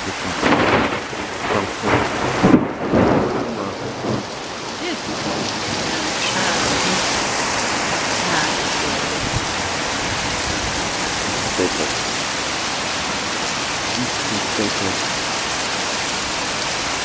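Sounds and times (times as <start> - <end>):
thunder rumbling: 0.0 - 15.3
heavy rain hissing: 0.0 - 17.0.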